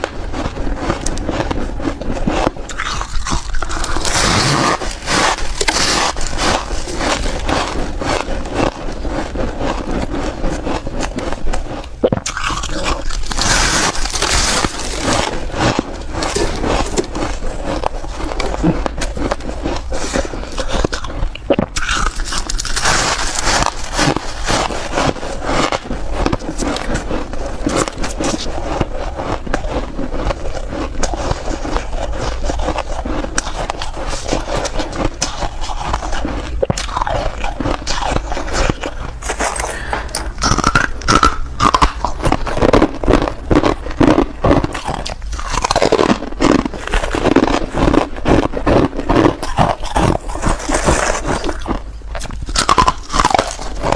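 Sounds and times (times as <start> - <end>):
ice being crunched: 0.0 - 53.9.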